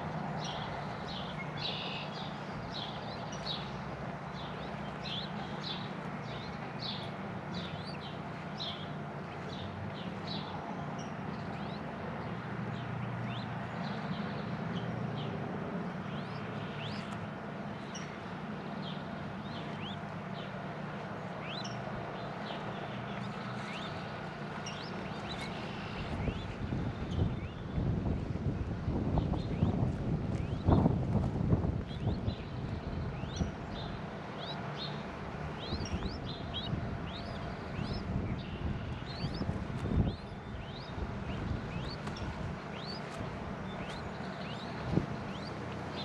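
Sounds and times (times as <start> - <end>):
small birds chirping: 0.4 - 15.3, 16.0 - 18.2, 18.8 - 20.5, 21.4 - 27.7, 31.9 - 46.0.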